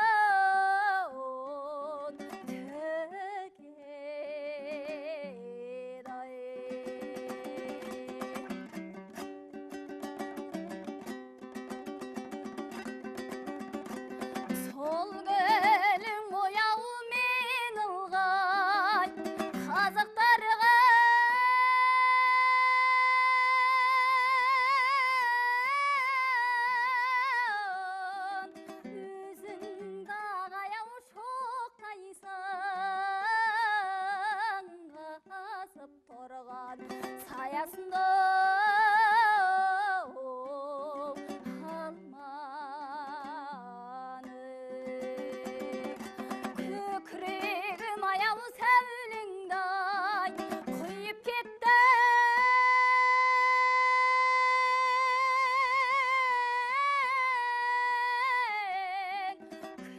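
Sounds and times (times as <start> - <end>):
person singing folk song: 0.0 - 59.9
plucked string accompaniment: 1.8 - 3.6, 6.0 - 59.9.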